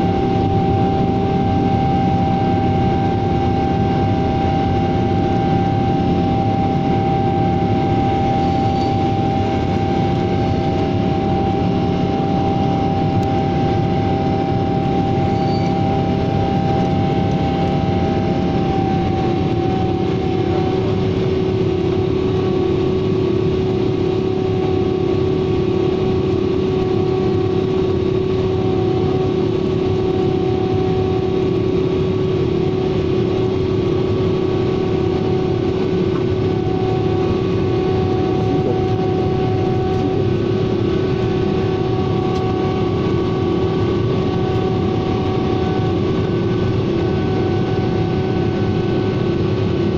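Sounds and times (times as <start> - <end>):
jet engines in aircraft cabin: 0.0 - 49.9.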